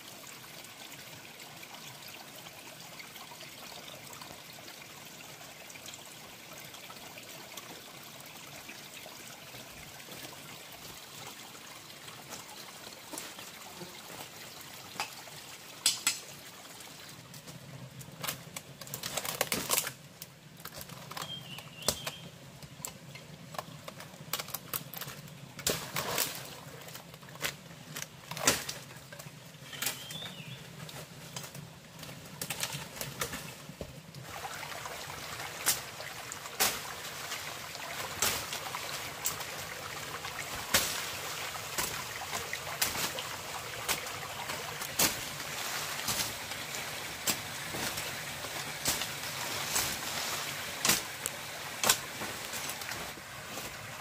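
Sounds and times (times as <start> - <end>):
small stream rushing: 0.0 - 54.0.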